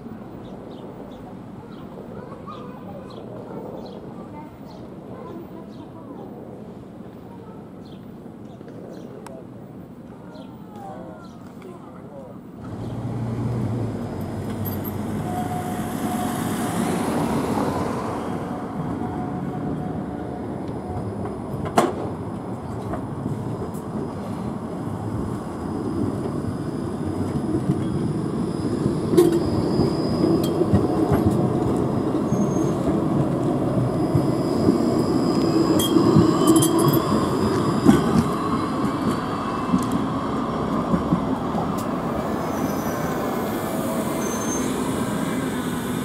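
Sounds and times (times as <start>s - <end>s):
tram rolling past: 0.0s - 46.0s.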